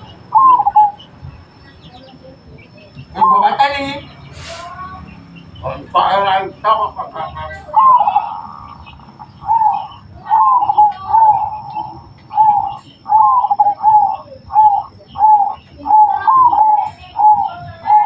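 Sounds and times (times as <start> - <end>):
dove cooing: 0.0 - 3.9, 6.7 - 18.0.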